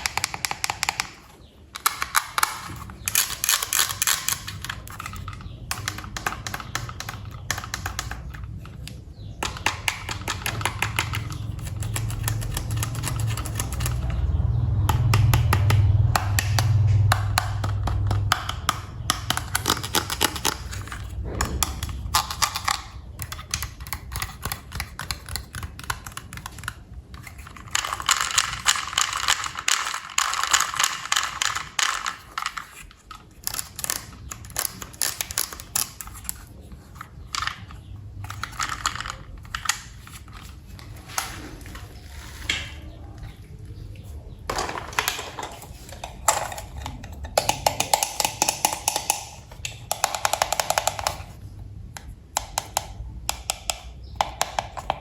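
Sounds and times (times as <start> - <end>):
plastic toy parts clicking and rattling: 0.0 - 55.0.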